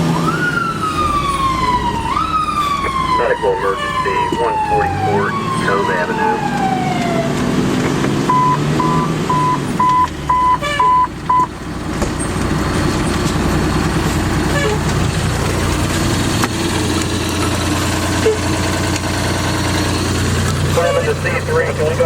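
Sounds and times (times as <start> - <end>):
fire engine rumbling: 0.0 - 22.0.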